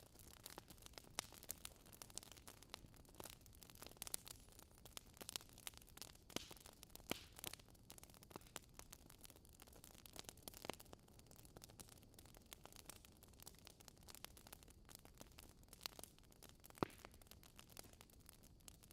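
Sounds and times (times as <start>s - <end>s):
fire crackling and popping: 0.0s - 18.9s.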